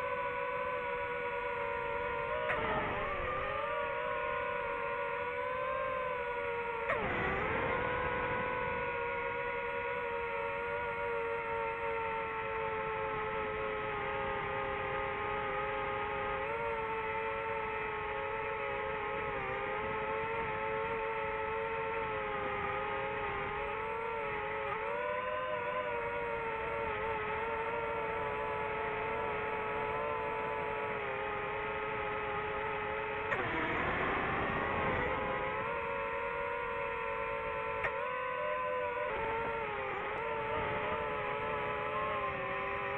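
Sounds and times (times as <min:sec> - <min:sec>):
drone propellers whining: 0:00.0 - 0:42.9.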